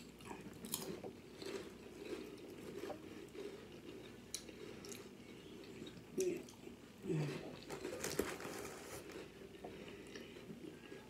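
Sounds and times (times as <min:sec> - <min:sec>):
person chewing food: 0:00.0 - 0:10.7.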